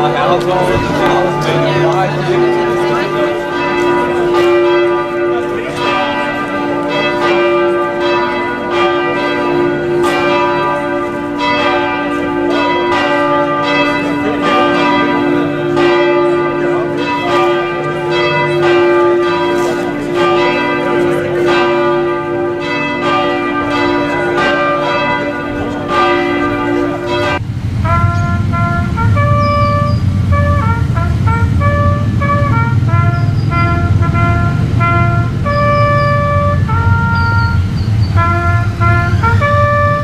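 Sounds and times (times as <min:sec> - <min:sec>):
church bells ringing: 0:00.0 - 0:40.0
trumpet playing a call: 0:00.0 - 0:40.0.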